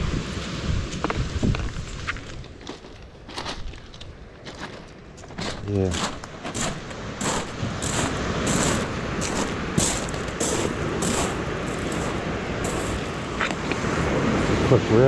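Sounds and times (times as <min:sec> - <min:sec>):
surf washing: 0:00.0 - 0:02.9, 0:04.5 - 0:15.0
footsteps crunching on pebbles: 0:00.9 - 0:13.6.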